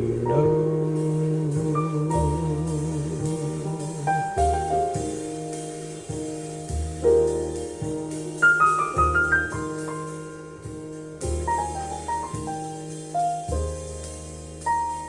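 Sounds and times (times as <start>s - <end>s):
jazz piano ballad over loudspeakers: 0.0s - 15.0s.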